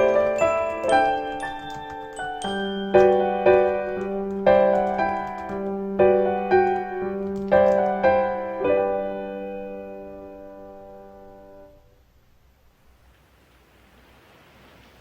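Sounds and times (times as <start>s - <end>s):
soft piano chords: 0.0s - 12.7s.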